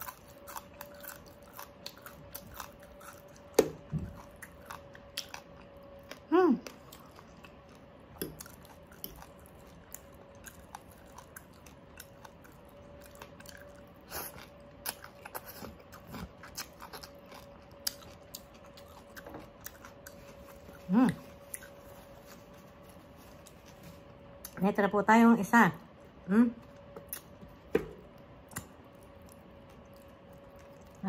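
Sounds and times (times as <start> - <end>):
person chewing food: 0.0 - 24.6, 26.0 - 31.0.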